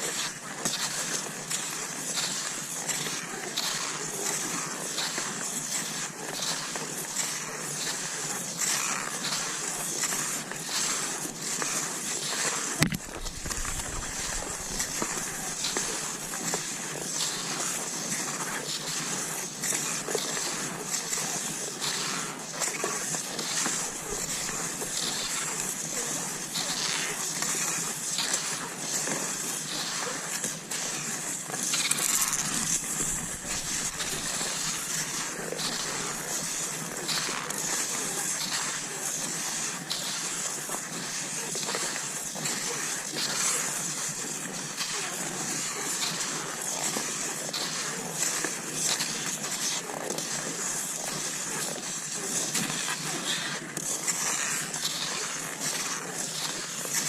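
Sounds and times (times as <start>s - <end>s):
skis swishing over snow: 0.0s - 57.0s.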